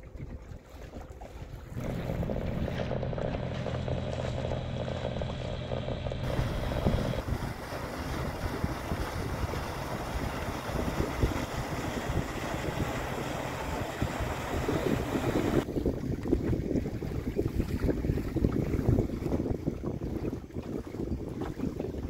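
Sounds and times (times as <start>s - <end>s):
boat motor running: 0.0s - 22.0s
choppy water: 0.0s - 22.0s
wind on microphone: 0.0s - 22.0s.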